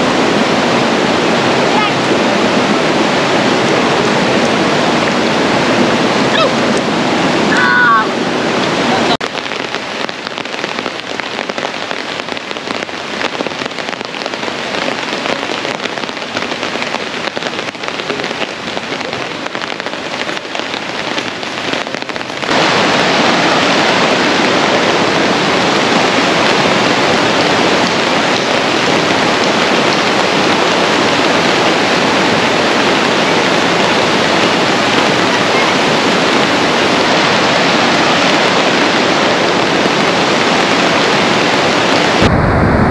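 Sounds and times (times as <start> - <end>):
fast-flowing river rushing: 0.0 - 42.6
heavy rain on foliage: 0.0 - 42.9.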